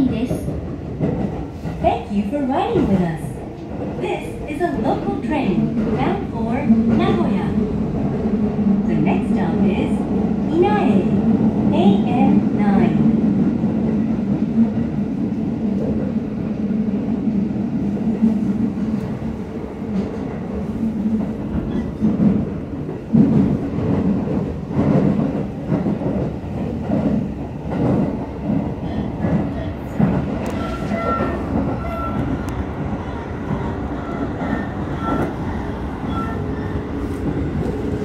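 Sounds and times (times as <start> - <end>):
train rumble and motor hum: 0.0 - 38.0.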